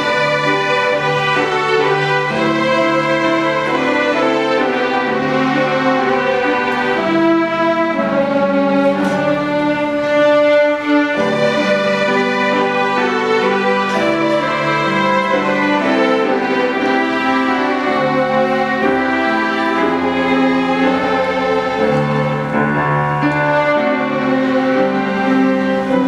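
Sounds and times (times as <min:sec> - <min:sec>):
violins playing sustained notes: 0:00.0 - 0:26.0.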